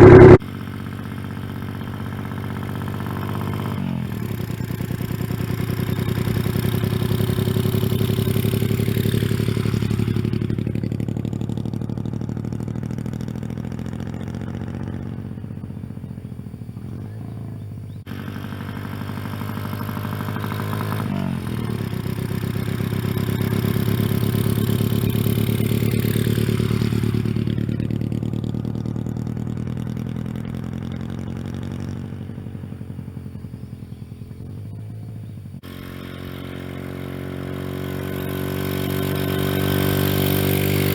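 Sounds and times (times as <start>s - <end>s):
motorcycle engine loping beat: 0.0s - 40.9s.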